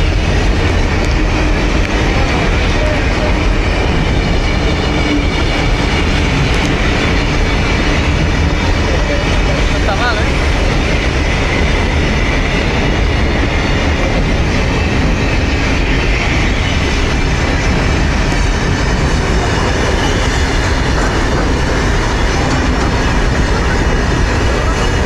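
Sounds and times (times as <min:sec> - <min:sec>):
freight train rumbling and clattering: 0:00.0 - 0:25.0.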